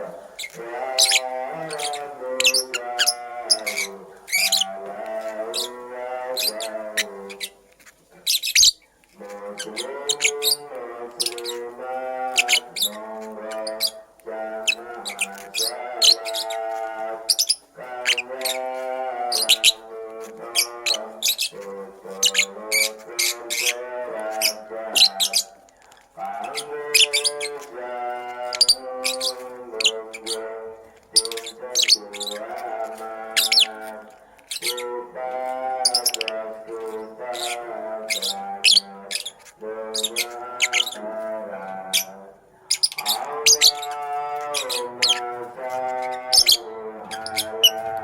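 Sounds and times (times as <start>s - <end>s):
lovebird chirping: 0.0s - 41.2s, 41.8s - 48.0s.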